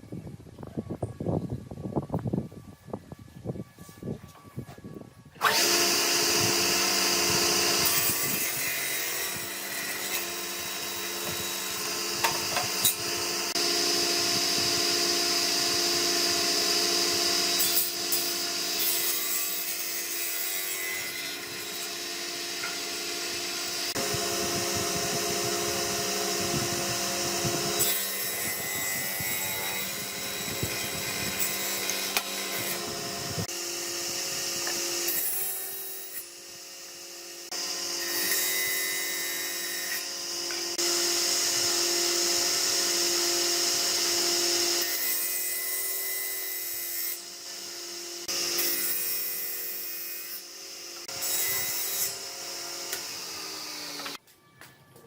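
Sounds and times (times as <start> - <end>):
power tool cutting wood: 5.4 - 54.3.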